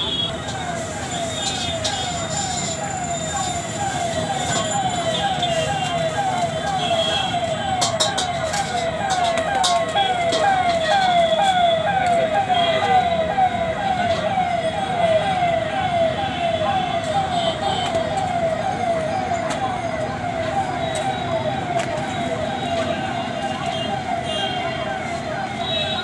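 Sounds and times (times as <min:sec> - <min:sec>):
falling electronic siren tone: 0:00.0 - 0:26.0
steady background din: 0:00.0 - 0:26.0.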